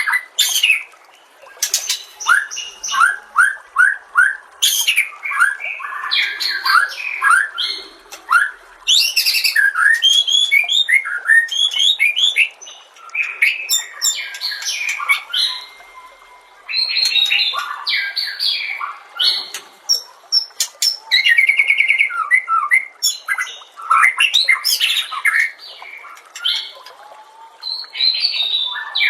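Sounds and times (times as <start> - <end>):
songbird singing: 0.0 - 29.0.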